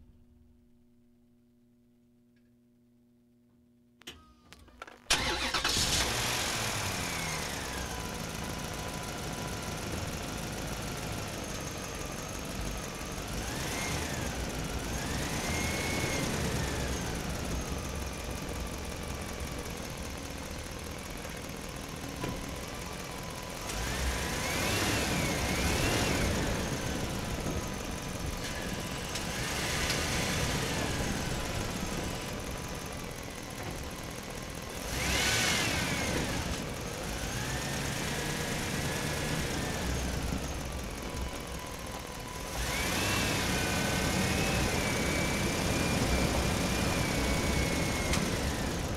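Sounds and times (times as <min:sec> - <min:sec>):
engine whine: 0:04.0 - 0:48.9
truck engine running: 0:04.8 - 0:48.9.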